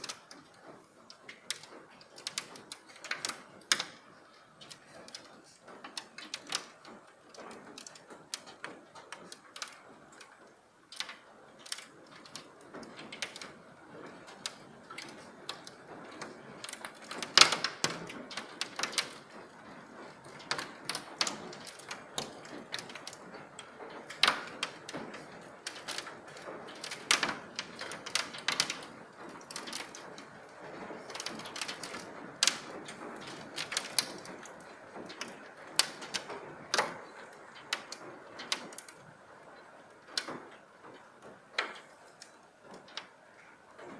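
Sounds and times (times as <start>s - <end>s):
hailstones striking paving: 0.0s - 43.9s.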